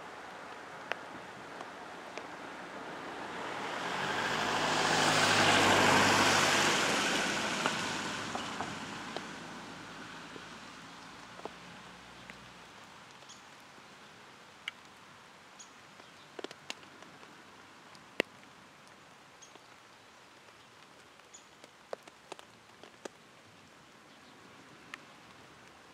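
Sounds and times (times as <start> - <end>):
faint rain hiss: 0.0 - 25.9
raindrops ticking: 0.3 - 2.5, 3.1 - 24.0, 24.8 - 25.9.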